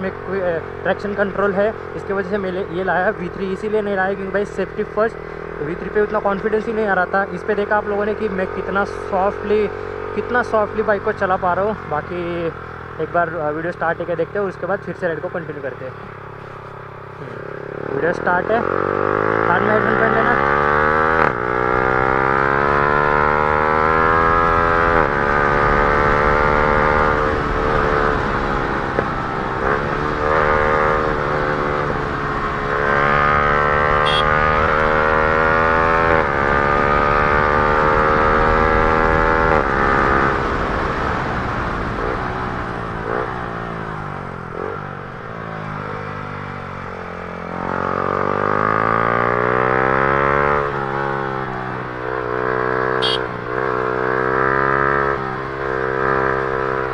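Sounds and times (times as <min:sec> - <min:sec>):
motorcycle engine revving through gears: 0:00.0 - 0:56.9.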